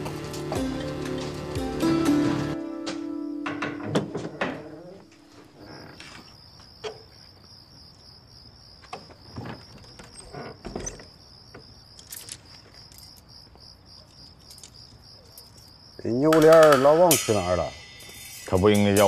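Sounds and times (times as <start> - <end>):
crickets chirping: 3.4 - 19.0.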